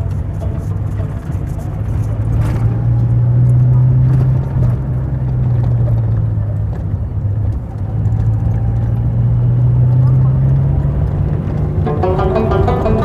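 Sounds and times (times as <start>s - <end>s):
road noise: 0.0s - 13.0s
vehicle engine droning: 0.0s - 13.0s.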